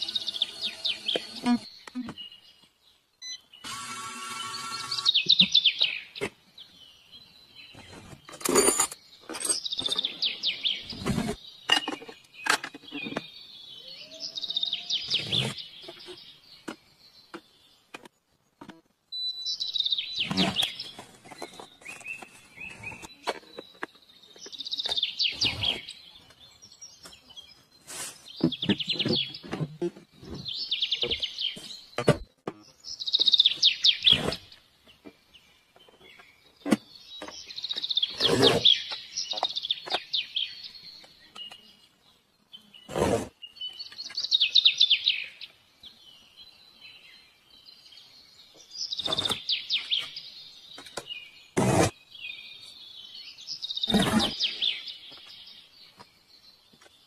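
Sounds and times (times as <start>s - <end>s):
birds chirping trills: 0.0s - 57.0s.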